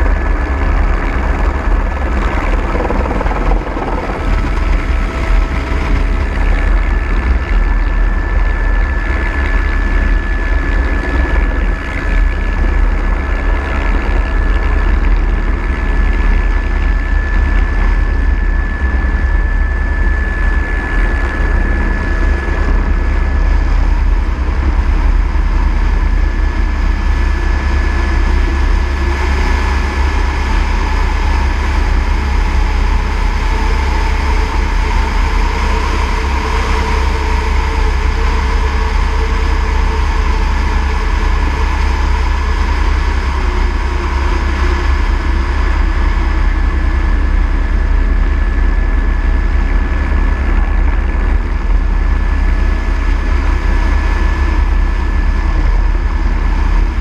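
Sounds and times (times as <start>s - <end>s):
helicopter rotor rumble: 0.0s - 57.0s
high turbine whine: 0.0s - 57.0s.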